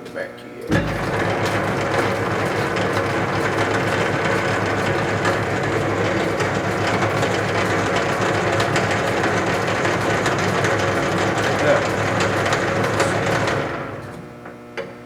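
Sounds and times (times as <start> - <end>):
lathe gears whirring and rattling: 0.7 - 14.6.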